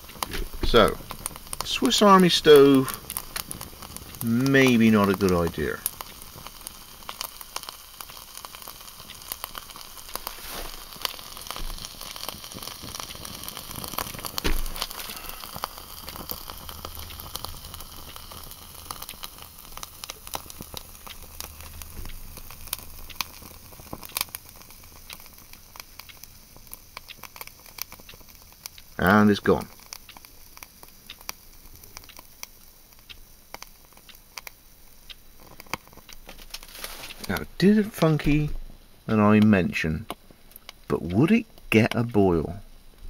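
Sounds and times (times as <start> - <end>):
fuel crackling and popping: 0.0 - 43.0.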